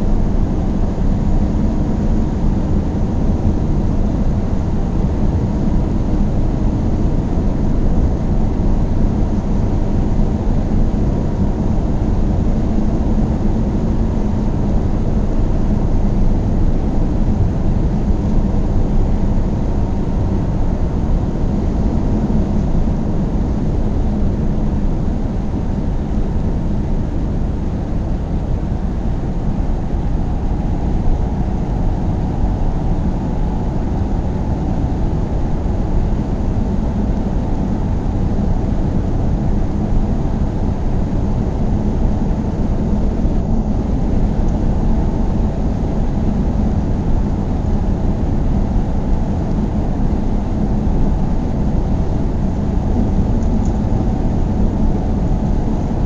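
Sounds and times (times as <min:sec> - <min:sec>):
car engine and tyre road noise: 0:00.0 - 0:56.0
faint even hum: 0:00.0 - 0:56.0.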